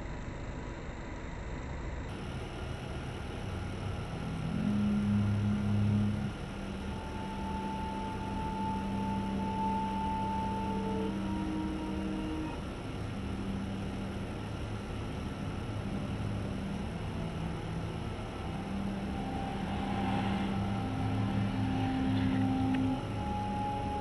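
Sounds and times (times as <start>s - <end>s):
low rumbling drone: 2.1s - 24.0s
slow ambient music: 2.1s - 24.0s.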